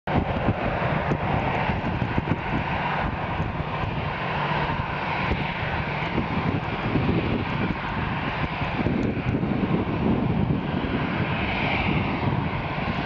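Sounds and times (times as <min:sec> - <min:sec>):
jet engines on approach: 0:00.1 - 0:13.0.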